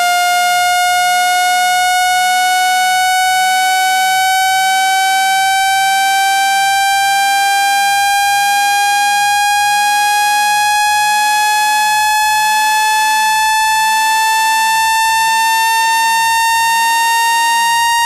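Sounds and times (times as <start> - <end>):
buzzy electronic tone rising: 0.0 - 18.0.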